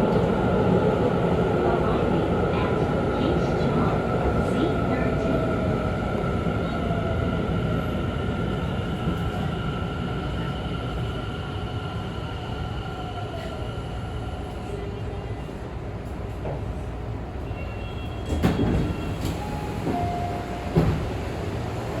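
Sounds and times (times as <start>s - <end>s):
electric train low hum: 0.0s - 17.4s, 18.4s - 22.0s.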